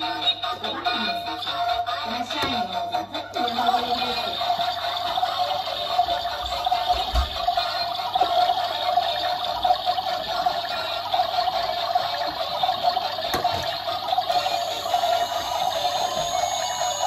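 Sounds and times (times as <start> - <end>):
toy washing machines whirring: 0.0 - 17.0.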